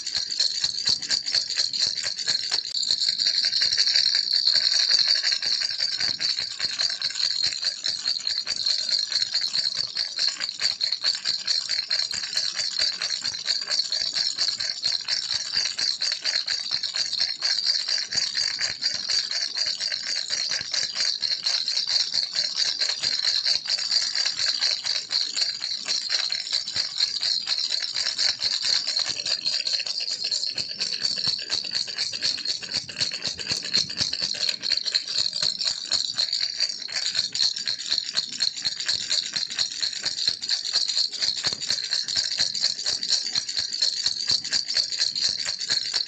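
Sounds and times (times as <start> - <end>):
baby rattle shaken: 0.0 - 46.0.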